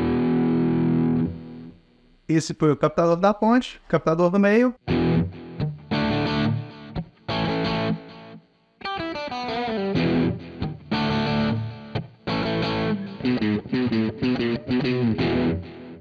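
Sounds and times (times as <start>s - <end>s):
overdriven electric guitar: 0.0s - 2.0s, 4.8s - 16.0s.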